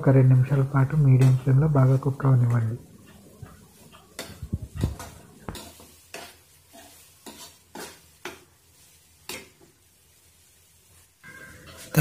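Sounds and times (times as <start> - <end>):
faint frying sizzle: 0.0 - 12.0
spatula scraping and knocking pan: 1.0 - 9.8, 10.9 - 11.9.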